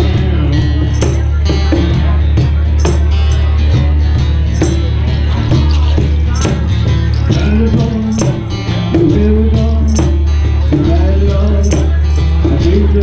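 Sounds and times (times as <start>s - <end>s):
low bass: 0.0s - 13.0s.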